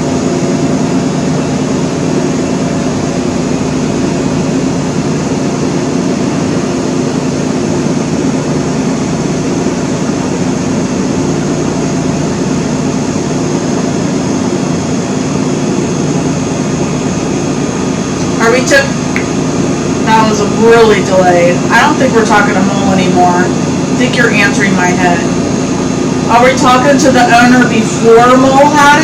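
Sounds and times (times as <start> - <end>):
faint constant hum: 0.0 - 29.0.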